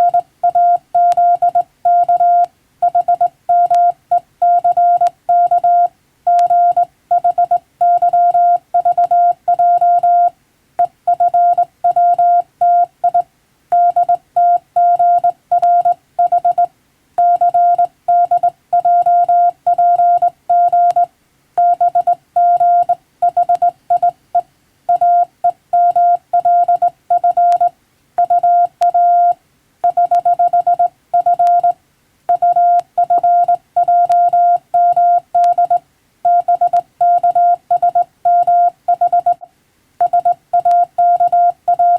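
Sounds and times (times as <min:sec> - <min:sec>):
morse code beeps: 0:00.0 - 0:10.3, 0:11.1 - 0:13.2, 0:13.8 - 0:24.2, 0:24.9 - 0:41.9.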